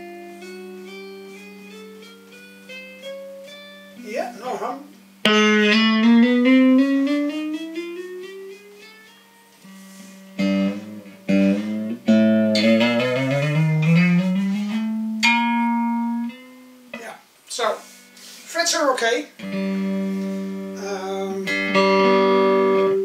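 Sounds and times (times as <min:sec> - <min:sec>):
electric guitar plucked notes: 0:00.0 - 0:17.1, 0:19.4 - 0:23.0.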